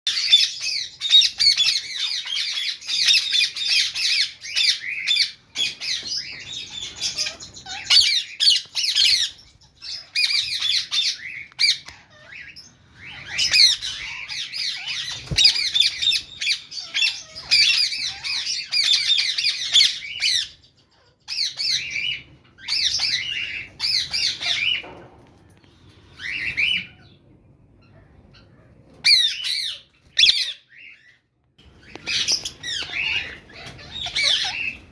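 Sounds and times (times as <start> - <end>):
lovebirds squawking and chirping: 0.1 - 34.9.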